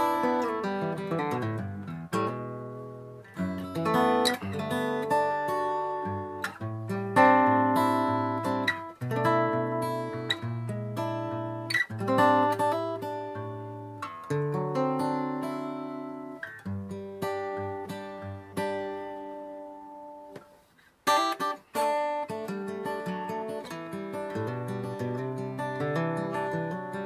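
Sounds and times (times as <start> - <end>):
acoustic guitar chords: 0.0 - 27.0.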